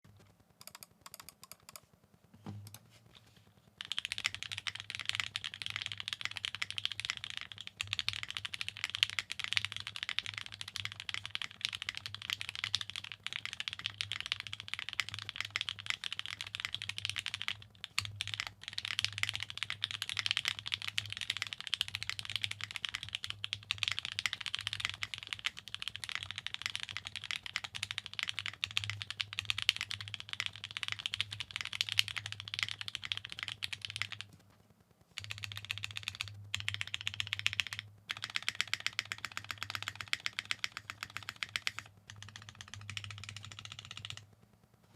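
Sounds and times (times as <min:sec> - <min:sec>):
typing on mechanical keyboard: 0:00.1 - 0:01.9, 0:03.7 - 0:44.4.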